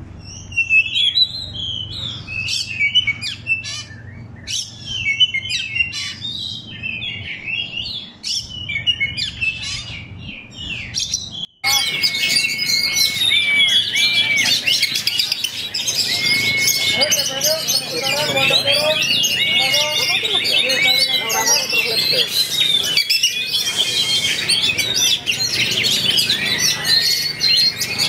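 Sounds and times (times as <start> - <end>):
bird singing: 0.2 - 28.0.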